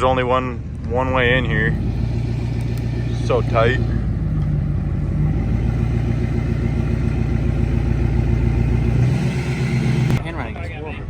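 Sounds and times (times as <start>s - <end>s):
pickup truck engine running: 0.7s - 10.7s.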